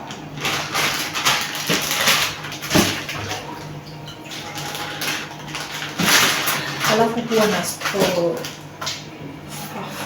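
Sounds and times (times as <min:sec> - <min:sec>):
plastic bags rustling: 0:00.0 - 0:09.0.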